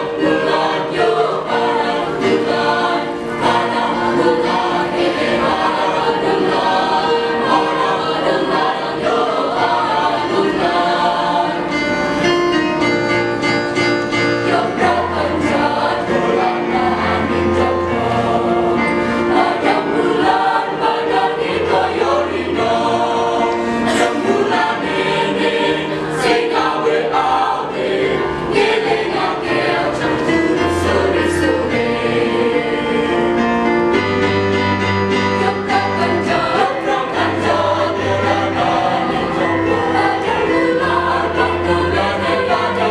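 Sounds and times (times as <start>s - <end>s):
choir singing in parts: 0.0s - 12.8s, 14.0s - 42.9s.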